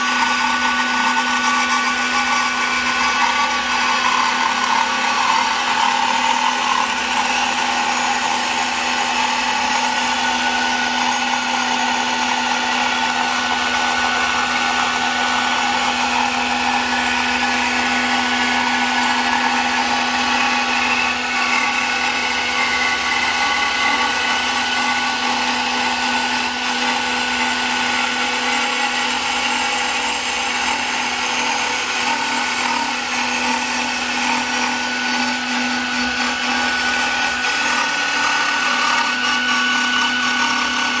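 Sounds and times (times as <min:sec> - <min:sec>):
router spindle whining: 0:00.0 - 0:41.0.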